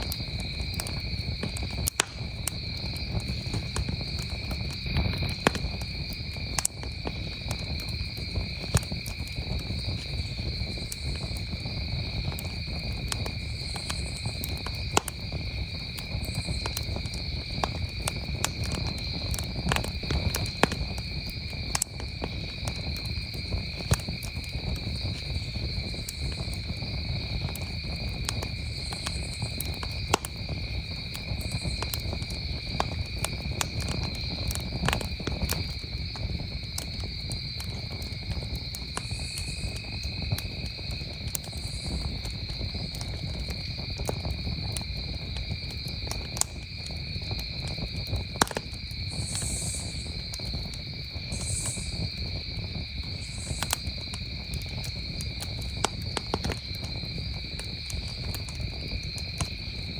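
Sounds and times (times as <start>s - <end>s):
campfire crackling and popping: 0.0s - 59.9s
crickets trilling: 0.0s - 59.9s.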